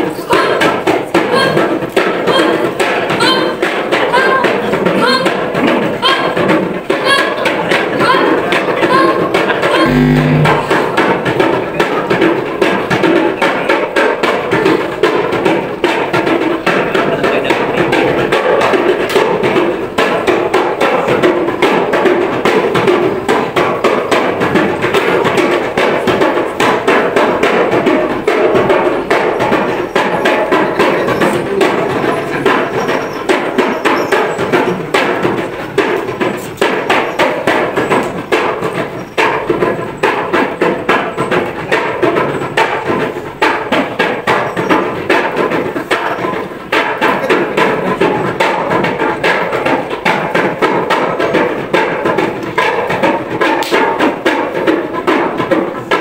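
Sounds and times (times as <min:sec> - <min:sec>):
instrumental music with percussion: 0:00.0 - 0:56.0.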